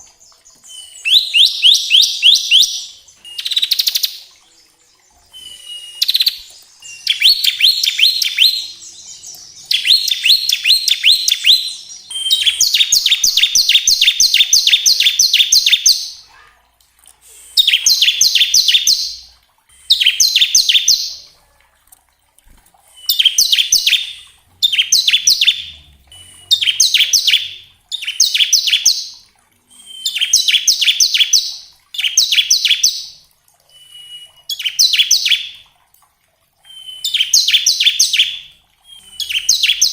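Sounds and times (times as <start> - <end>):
bird singing fast rattling song: 0.0 - 4.2, 5.0 - 16.3, 17.6 - 21.2, 22.9 - 29.2, 29.9 - 33.2, 33.8 - 35.6, 36.7 - 39.9.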